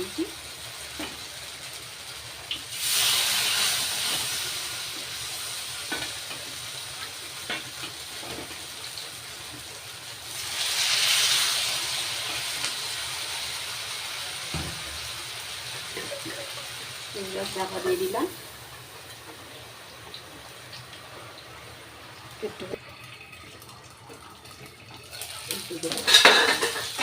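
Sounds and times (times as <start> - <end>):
fritters sizzling in hot oil: 0.0 - 27.0.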